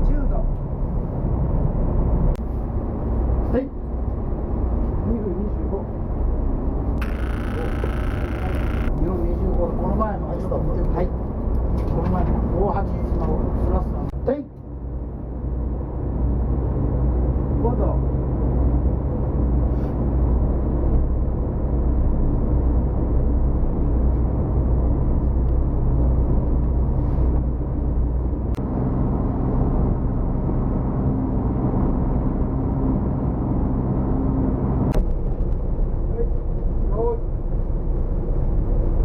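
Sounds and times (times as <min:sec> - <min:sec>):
ship diesel engine drone: 0:00.3 - 0:35.0.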